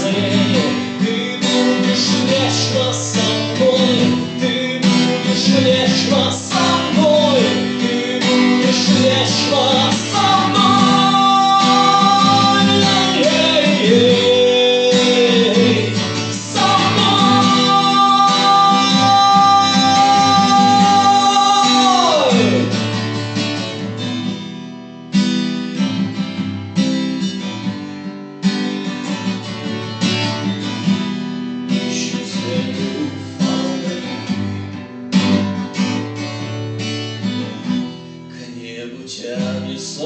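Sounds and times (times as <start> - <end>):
acoustic guitar strummed chords: 0.0 - 40.0.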